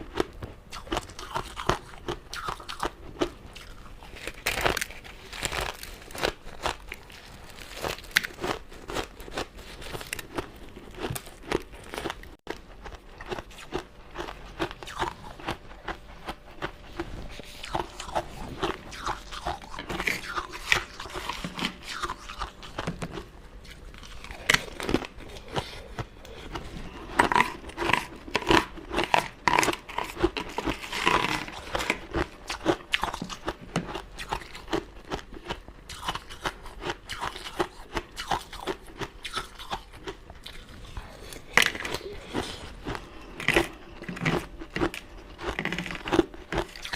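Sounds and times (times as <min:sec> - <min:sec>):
crunching and chewing sweets: 0:00.0 - 0:46.9.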